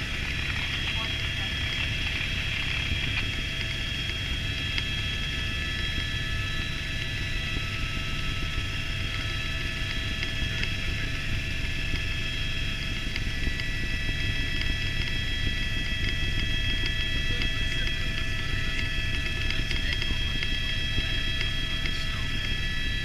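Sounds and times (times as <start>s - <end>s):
helicopter rotor rumble: 0.0s - 23.0s
helicopter turbine whine: 0.0s - 23.0s.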